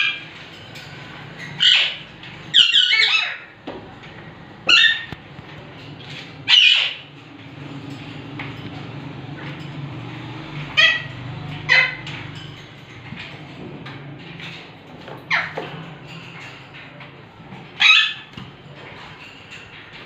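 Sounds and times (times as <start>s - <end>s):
parakeets squawking: 0.0s - 13.3s, 14.4s - 16.6s, 17.7s - 18.4s.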